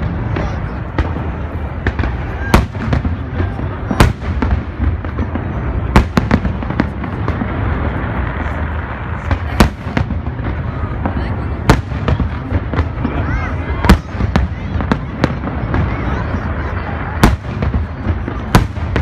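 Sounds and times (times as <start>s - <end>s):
fireworks rumbling and crackling: 0.0s - 19.0s
loud firework bangs: 0.0s - 19.0s.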